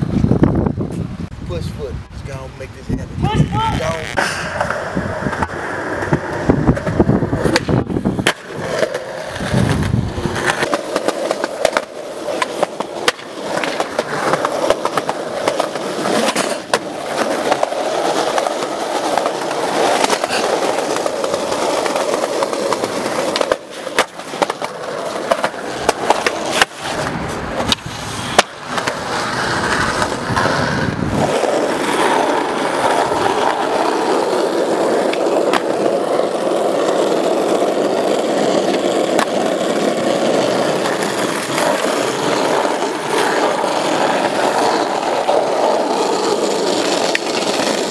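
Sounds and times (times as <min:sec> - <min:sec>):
skateboard wheels rolling on pavement: 0:00.0 - 0:47.9
skateboard clicks and knocks: 0:03.3 - 0:47.9.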